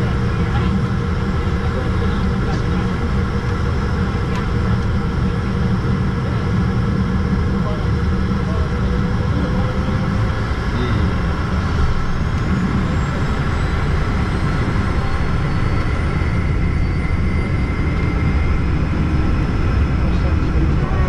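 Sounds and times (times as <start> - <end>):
jet engines rumbling with whine: 0.0 - 21.0.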